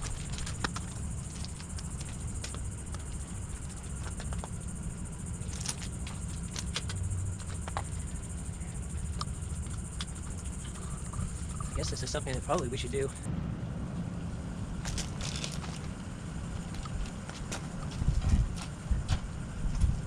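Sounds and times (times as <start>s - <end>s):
insect chirring: 0.0s - 13.3s, 14.4s - 18.0s.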